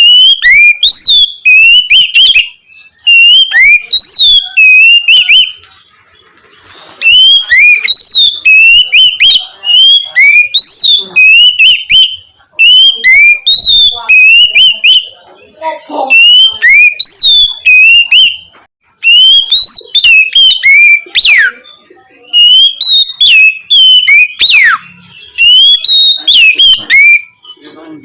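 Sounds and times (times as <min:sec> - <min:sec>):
bird singing whistled notes: 0:00.0 - 0:06.1, 0:07.0 - 0:15.2, 0:15.9 - 0:28.0.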